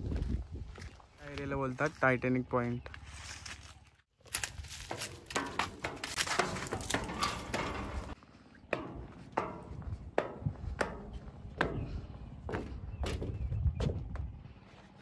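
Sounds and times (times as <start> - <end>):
footsteps crunching over debris: 0.0 - 15.0.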